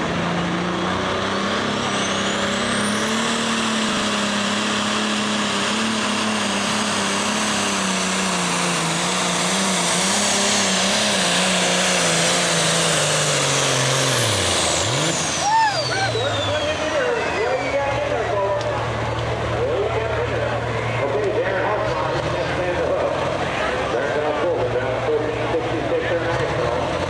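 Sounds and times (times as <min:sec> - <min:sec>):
diesel engine running under load: 0:00.0 - 0:27.0
high turbo whine: 0:00.0 - 0:27.0.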